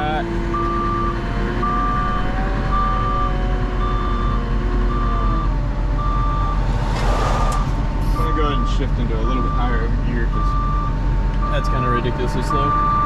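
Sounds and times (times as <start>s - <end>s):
loader engine running low: 0.0s - 13.0s
backup alarm beeping: 0.6s - 11.9s.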